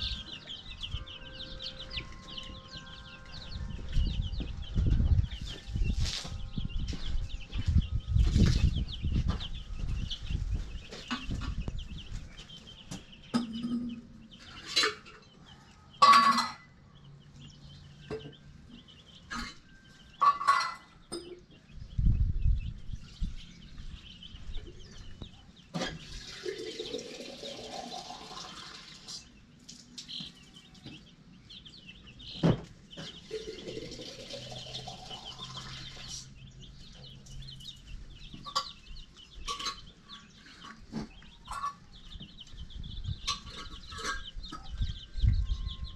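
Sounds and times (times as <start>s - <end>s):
chicks peeping: 0.0s - 45.9s.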